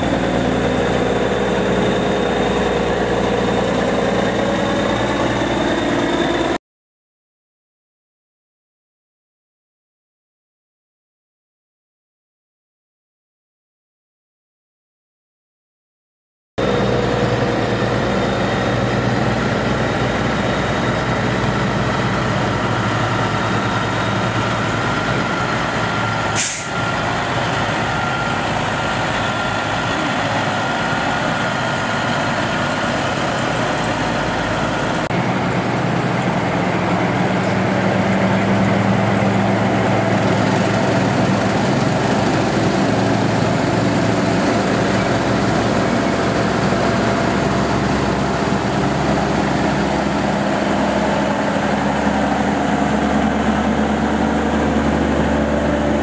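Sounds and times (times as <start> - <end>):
diesel truck engines passing: 0.0 - 6.6, 16.6 - 56.0.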